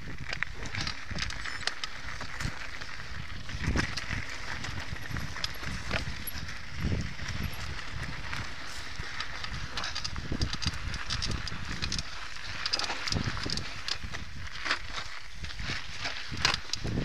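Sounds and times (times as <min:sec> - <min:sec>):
bike knocking and rattling: 0:00.0 - 0:17.0
tyres crunching over dirt: 0:00.0 - 0:17.0.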